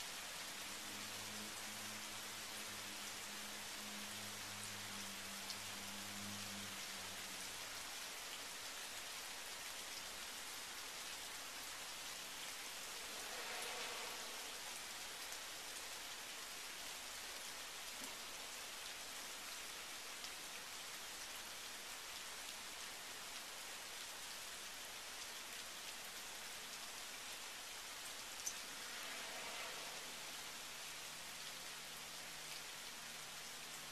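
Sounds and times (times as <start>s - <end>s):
rain falling on pavement: 0.0s - 33.9s.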